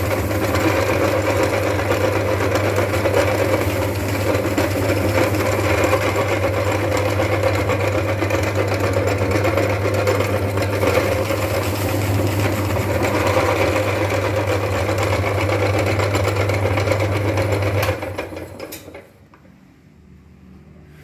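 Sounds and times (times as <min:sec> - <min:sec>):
crackly grinding: 0:00.0 - 0:18.9
meat grinder motor humming: 0:00.0 - 0:19.1.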